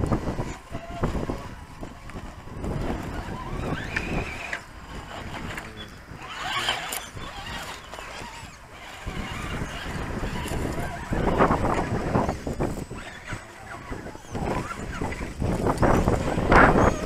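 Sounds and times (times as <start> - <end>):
rc car motor whining: 0.0 - 17.0.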